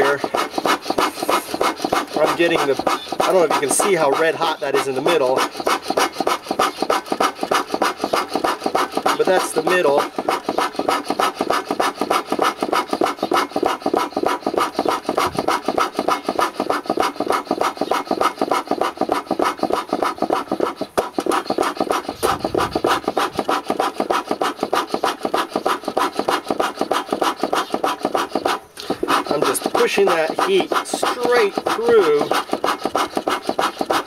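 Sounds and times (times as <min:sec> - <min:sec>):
bellows puffing air: 0:00.0 - 0:34.0.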